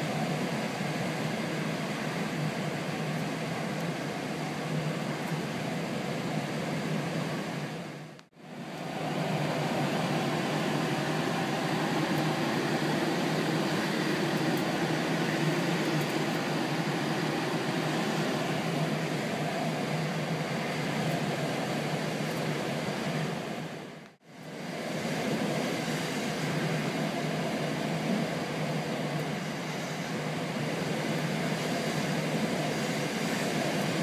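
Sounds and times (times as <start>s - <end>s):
air rushing over glider canopy: 0.0s - 34.0s.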